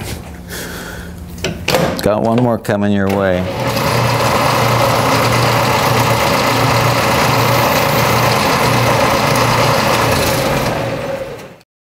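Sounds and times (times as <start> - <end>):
workshop machinery humming: 0.0 - 11.6.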